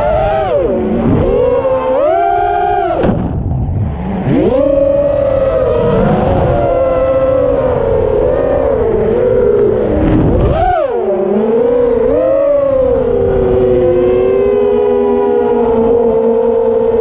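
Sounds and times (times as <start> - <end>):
drone motors whining: 0.0 - 17.0
wind noise: 0.0 - 17.0.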